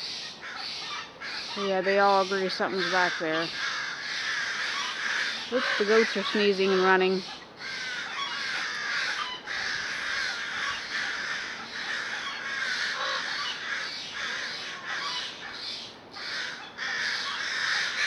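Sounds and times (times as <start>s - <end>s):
crows and jays calling harshly: 0.0s - 18.0s.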